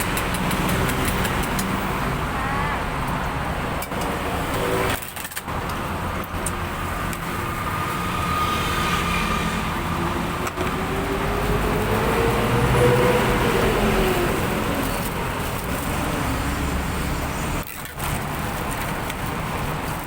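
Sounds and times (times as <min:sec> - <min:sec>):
vehicles passing: 0:00.0 - 0:20.0.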